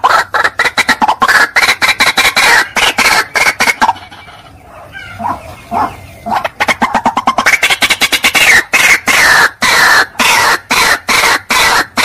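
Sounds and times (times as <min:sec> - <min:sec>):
waterhen calling harshly: 0:00.0 - 0:12.0.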